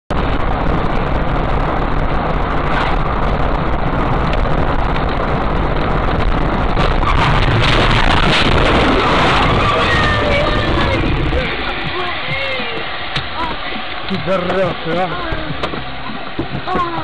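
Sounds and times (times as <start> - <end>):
road and wind noise in car: 0.1 - 17.0.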